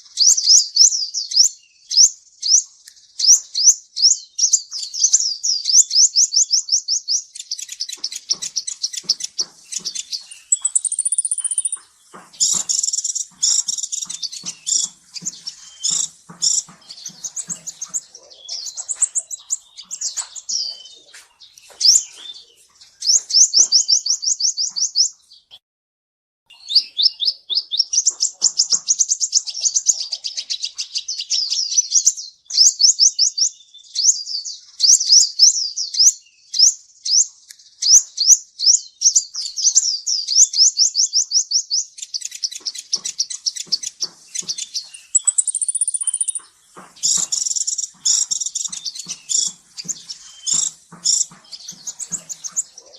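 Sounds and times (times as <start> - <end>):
sunbird singing fast high trills: 0.0 - 25.6, 26.5 - 52.9.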